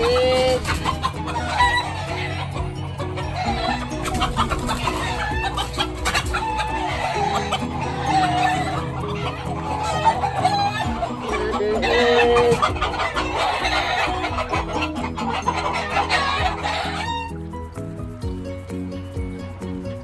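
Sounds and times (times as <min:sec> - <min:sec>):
rooster crowing: 0:00.0 - 0:17.4
background music with steady notes: 0:00.0 - 0:20.0
chickens clucking: 0:00.0 - 0:20.0.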